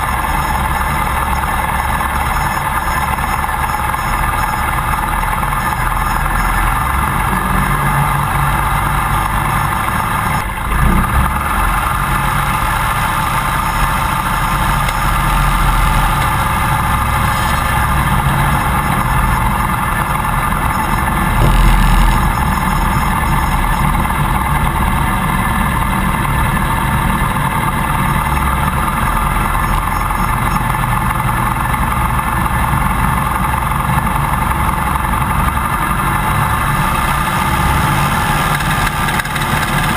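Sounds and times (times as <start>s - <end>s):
airplane engine running steadily: 0.0s - 39.9s.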